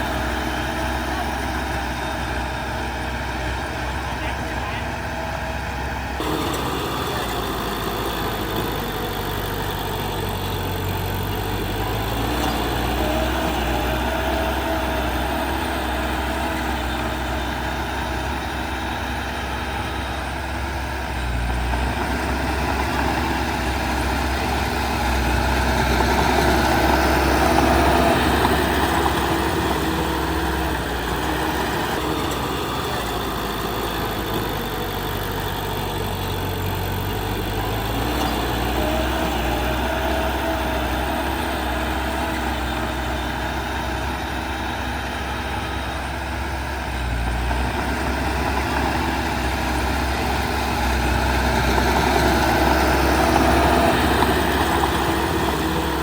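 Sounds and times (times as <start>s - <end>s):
diesel engine low rumble: 0.0s - 56.0s.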